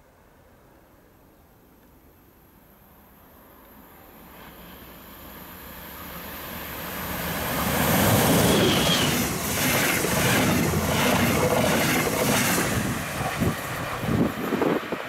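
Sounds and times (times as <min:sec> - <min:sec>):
electric locomotive passing: 0:02.5 - 0:15.0.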